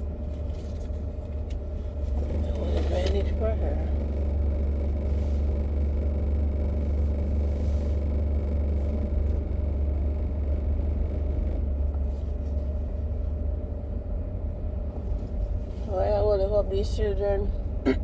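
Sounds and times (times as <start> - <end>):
car engine idling inside cabin: 0.0 - 18.0.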